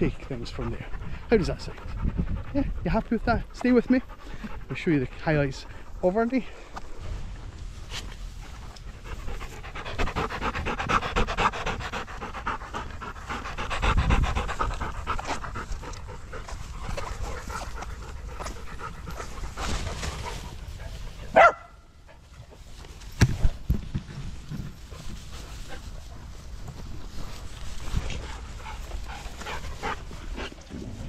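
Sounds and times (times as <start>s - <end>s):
dog panting: 0.0s - 6.8s, 8.0s - 22.7s, 24.7s - 31.0s.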